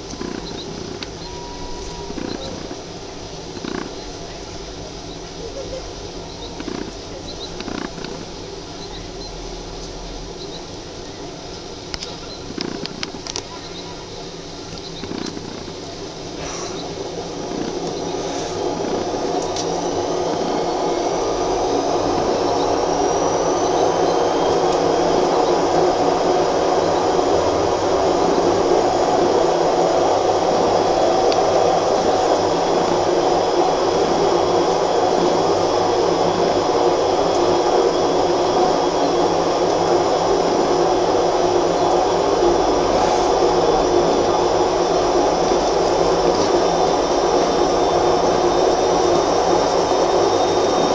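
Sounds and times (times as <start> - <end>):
faint high whine: 0.0 - 50.9
motor droning whine: 0.0 - 50.9.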